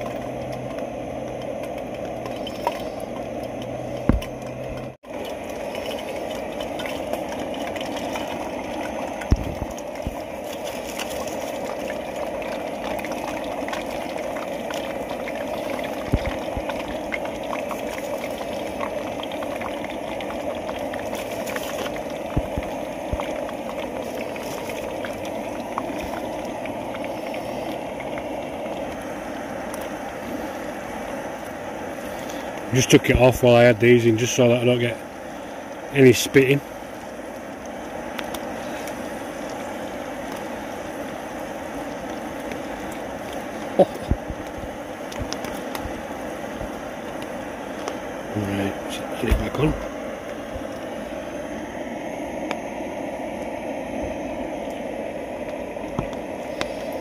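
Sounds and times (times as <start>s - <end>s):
chips deep-frying in oil: 0.0s - 53.8s.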